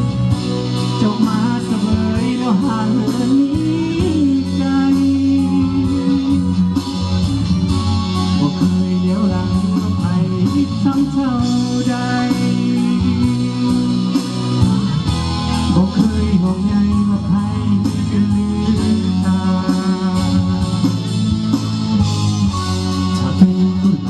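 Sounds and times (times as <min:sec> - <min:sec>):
bass: 0:00.0 - 0:24.0
electric guitar: 0:00.0 - 0:24.0
steady drum beat: 0:00.0 - 0:24.0.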